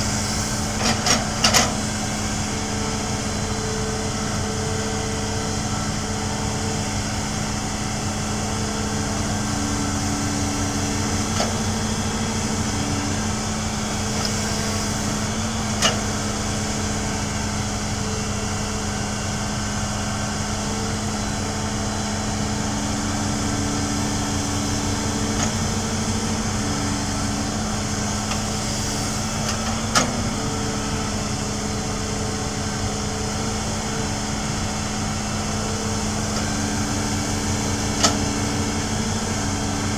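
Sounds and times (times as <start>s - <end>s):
excavator engine drone: 0.0s - 39.9s
hydraulic whine: 0.0s - 39.9s.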